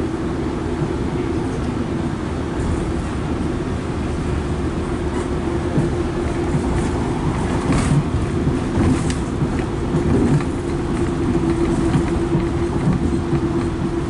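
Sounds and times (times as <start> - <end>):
constant train hum: 0.0 - 14.0
train wheels rumbling on track: 0.0 - 14.0.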